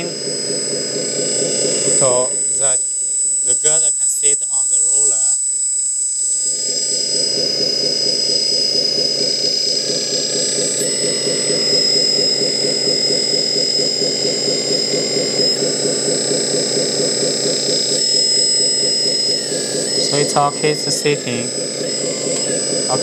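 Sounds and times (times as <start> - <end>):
electric pump whining: 0.0 - 23.0.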